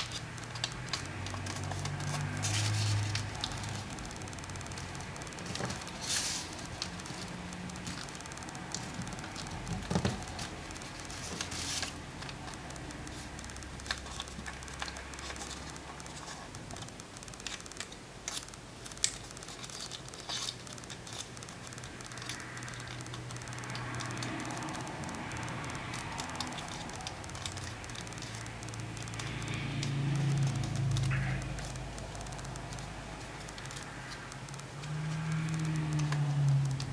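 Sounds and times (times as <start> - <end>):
paper crinkling and rustling: 0.0 - 36.9.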